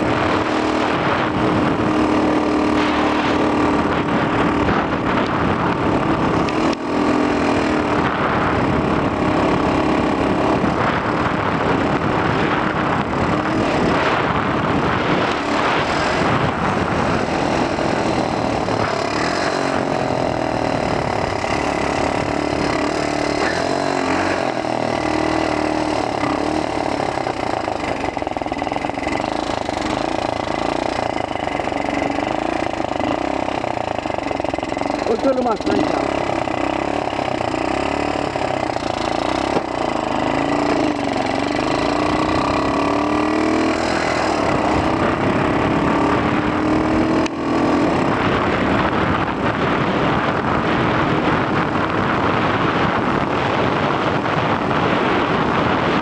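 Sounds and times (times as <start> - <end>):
small motorbike engine running: 0.0 - 56.0
wind noise on microphone: 0.0 - 56.0.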